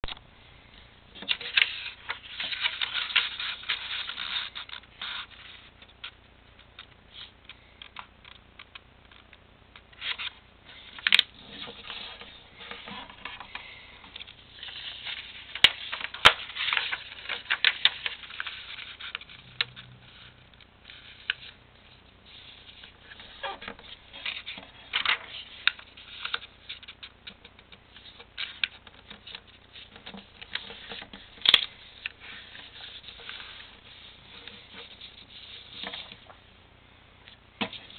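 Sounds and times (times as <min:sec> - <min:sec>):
paper rustling and crinkling: 0:01.2 - 0:05.7, 0:10.0 - 0:36.4.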